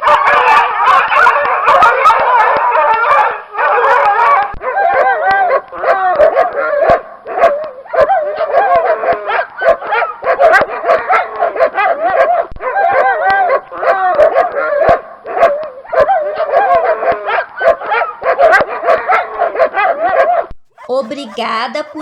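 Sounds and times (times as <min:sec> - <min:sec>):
dogs barking together: 0:00.0 - 0:22.0
dogs howling: 0:00.0 - 0:22.0.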